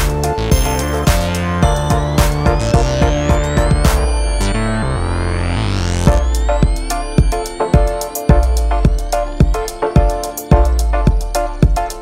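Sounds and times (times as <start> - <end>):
electronic background music: 0.0 - 12.0
synth tone rising in pitch: 0.0 - 12.0.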